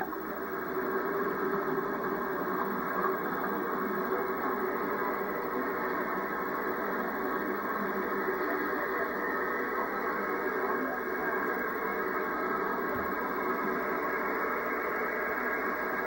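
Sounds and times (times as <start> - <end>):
videotape hiss and rumble: 0.0 - 16.0.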